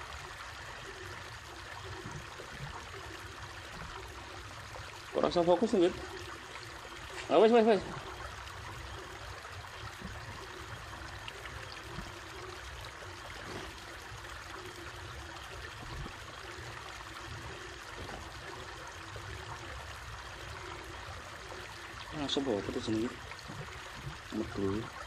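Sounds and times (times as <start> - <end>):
running water hissing: 0.0 - 25.0.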